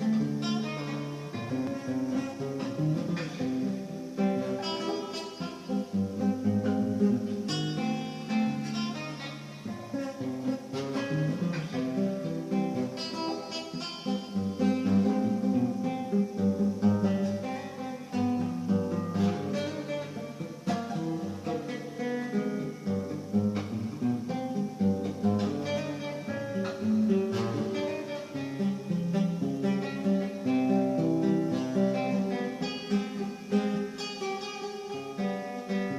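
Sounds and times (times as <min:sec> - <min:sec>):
acoustic guitar playing: 0:00.0 - 0:35.9.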